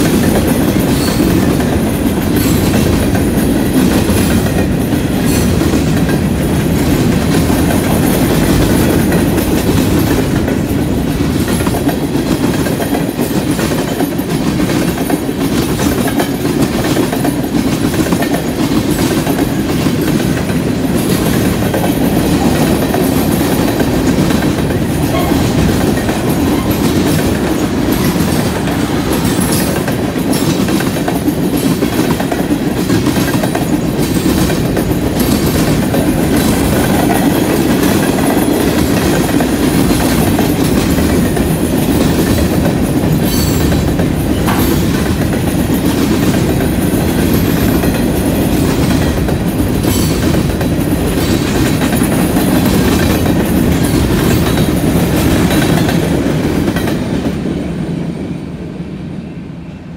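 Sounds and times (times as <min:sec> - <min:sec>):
wheels clicking over rail joints: 0:00.0 - 0:57.3
train wheels rumbling on rail: 0:00.0 - 0:59.9.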